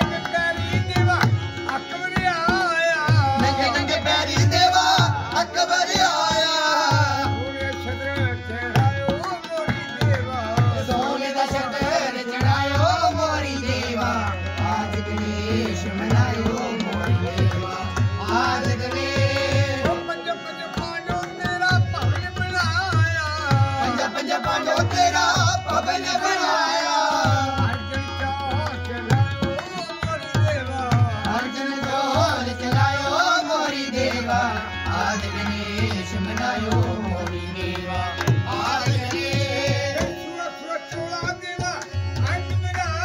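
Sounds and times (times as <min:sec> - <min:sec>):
harmonium chords: 0:00.0 - 0:43.0
tabla drums: 0:00.0 - 0:43.0.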